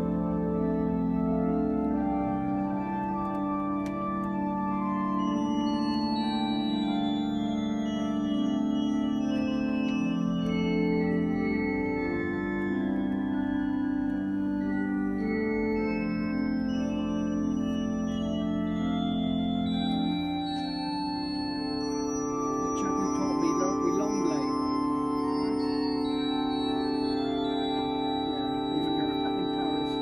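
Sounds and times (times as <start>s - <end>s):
pipe organ playing chords: 0.0s - 30.0s.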